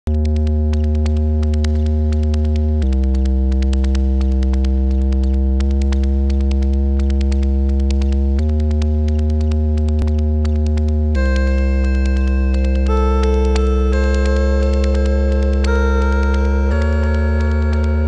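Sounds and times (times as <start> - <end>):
bass-heavy synth drone: 0.1 - 18.0
fast ticking clicks: 0.1 - 18.0.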